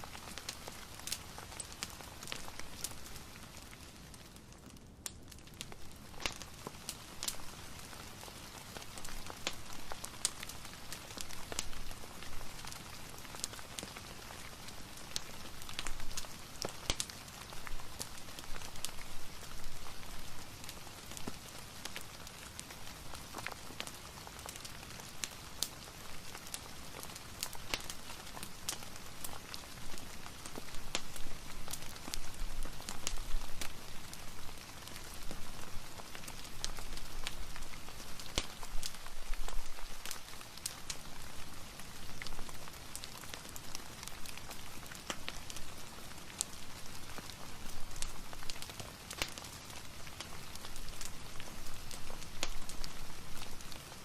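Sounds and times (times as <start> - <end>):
rain hiss: 0.0 - 4.5, 5.7 - 54.0
fireplace crackles and pops: 0.0 - 54.0.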